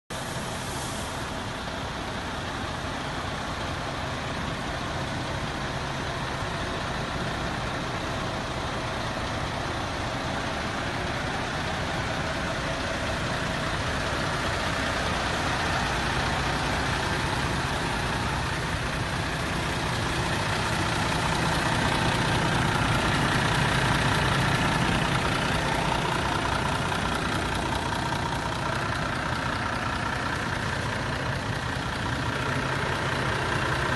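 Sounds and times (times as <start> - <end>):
diesel engine idling: 0.1 - 33.9.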